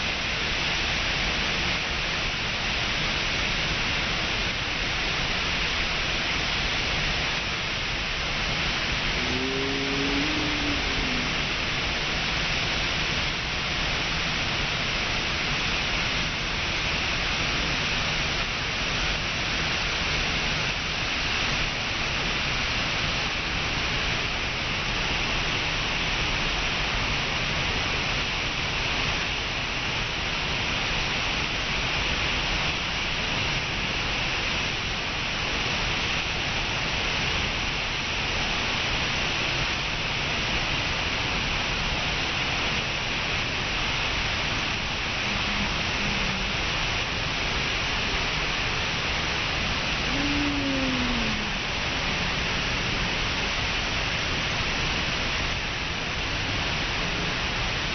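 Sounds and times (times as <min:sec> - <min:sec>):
waterfall rushing into pool: 0:00.0 - 0:57.9.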